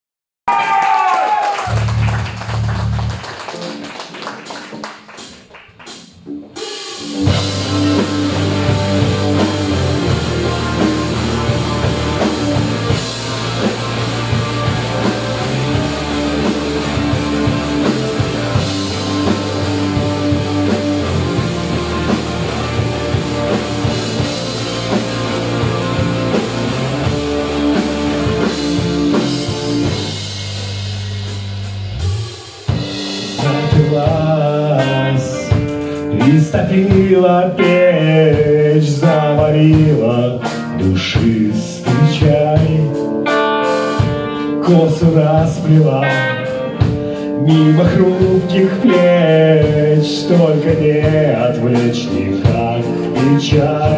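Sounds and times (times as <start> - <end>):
drum kit: 0.5 - 53.9
electric guitars: 0.5 - 53.9
bass guitar: 1.5 - 53.9.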